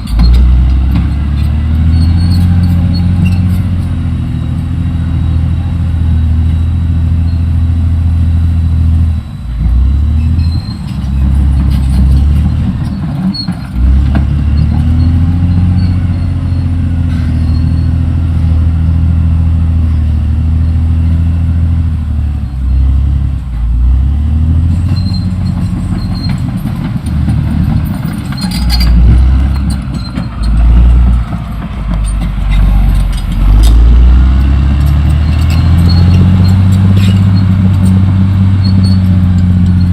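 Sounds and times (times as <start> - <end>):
diesel engine under changing load: 0.0 - 39.9.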